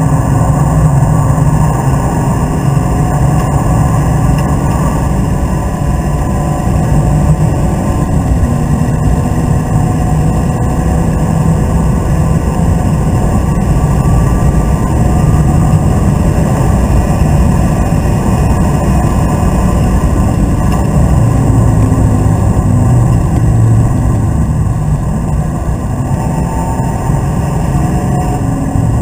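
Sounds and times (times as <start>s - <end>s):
car engine under load: 0.0s - 29.0s
road and tyre rumble: 0.0s - 29.0s.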